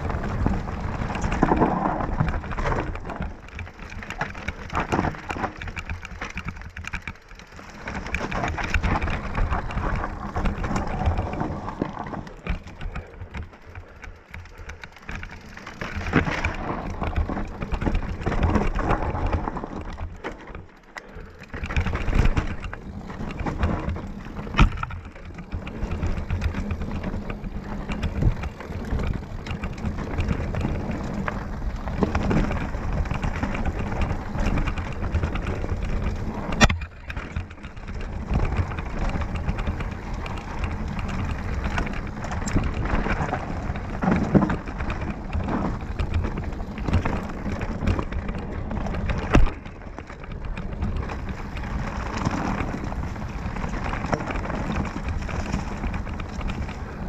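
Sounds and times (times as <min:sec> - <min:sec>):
bike rattling over bumps: 0:00.0 - 0:57.0
tyres crunching over dirt: 0:00.0 - 0:57.0
wind rumble on microphone: 0:00.0 - 0:57.0.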